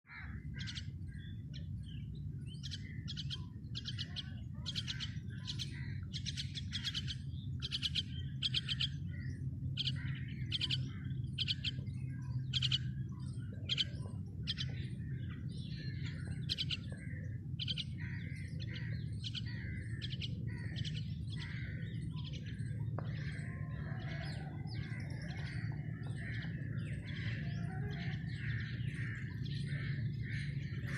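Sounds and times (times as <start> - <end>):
small birds chirping: 0.1 - 30.9
steady low rumble: 0.1 - 30.9.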